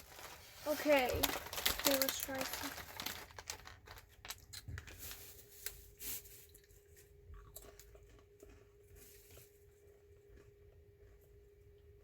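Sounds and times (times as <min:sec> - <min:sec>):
person crunching crackers: 0:00.0 - 0:05.8, 0:06.5 - 0:11.2.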